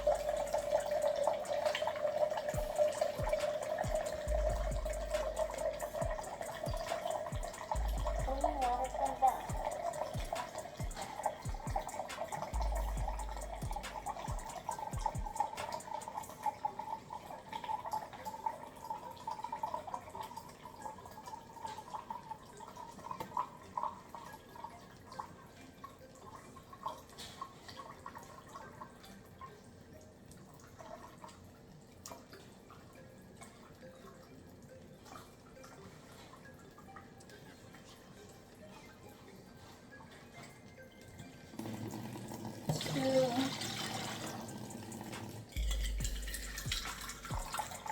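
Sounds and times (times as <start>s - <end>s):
water trickling into cup: 0.0s - 47.9s.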